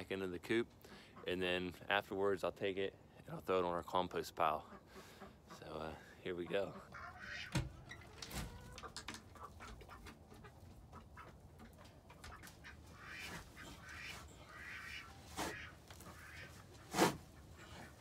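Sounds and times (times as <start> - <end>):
ducks quacking quietly: 0.1 - 18.0.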